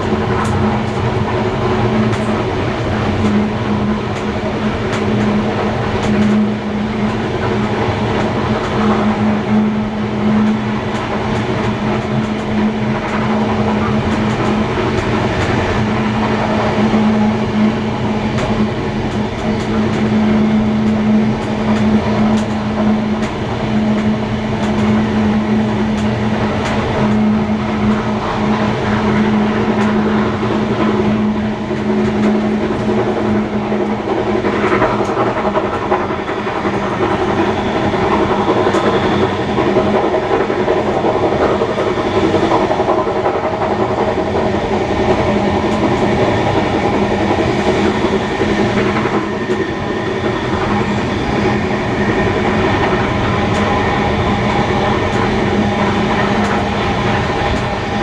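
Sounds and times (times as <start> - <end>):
clickety-clack over rail joints: 0.0 - 58.0
constant hum: 0.0 - 58.0
train wheels rumbling on rails: 0.0 - 58.0.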